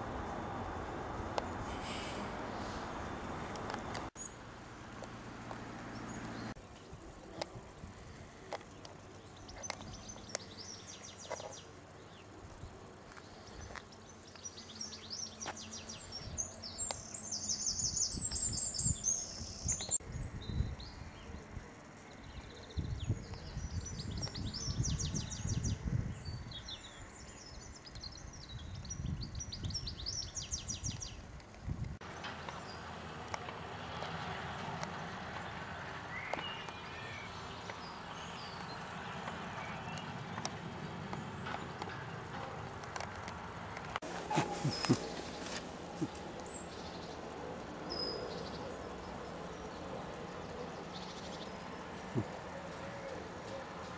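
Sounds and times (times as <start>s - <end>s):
small birds trilling and chirping: 5.9s - 53.9s.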